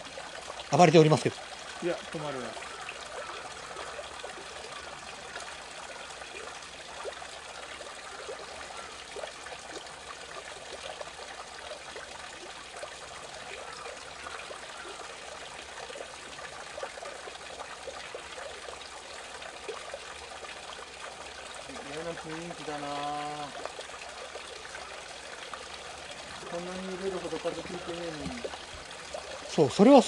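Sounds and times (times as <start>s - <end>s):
water trickling and bubbling: 0.0s - 30.0s.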